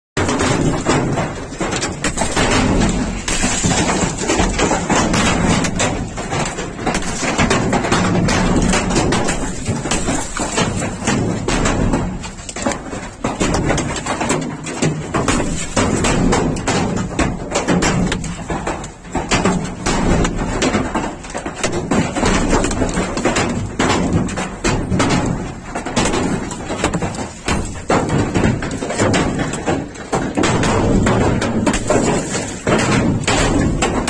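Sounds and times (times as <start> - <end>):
hailstones pelting car roof: 0.2 - 34.0.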